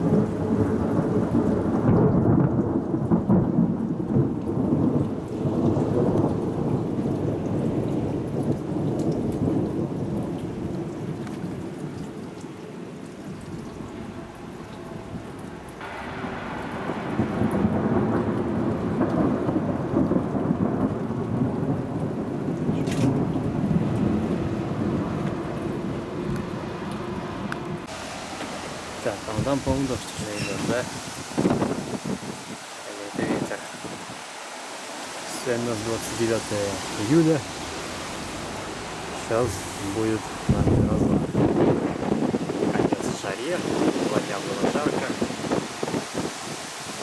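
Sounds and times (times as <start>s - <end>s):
rain hissing: 0.0s - 47.0s
thunder rumbling: 0.0s - 47.0s.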